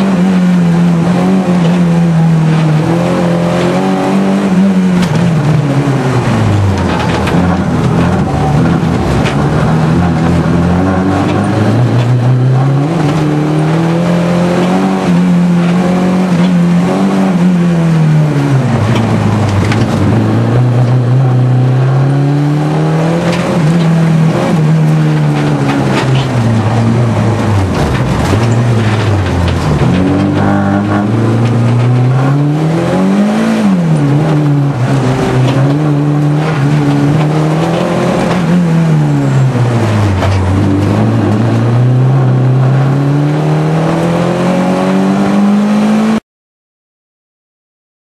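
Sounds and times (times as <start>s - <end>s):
car engine revving: 0.0s - 46.2s.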